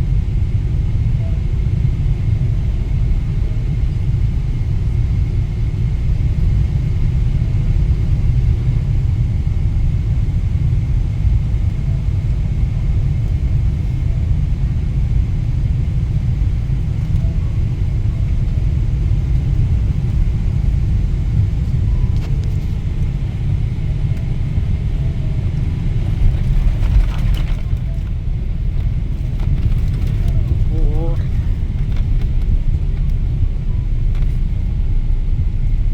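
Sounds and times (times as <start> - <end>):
airplane cabin rumble: 0.0 - 35.9
faint high whine: 0.6 - 35.9.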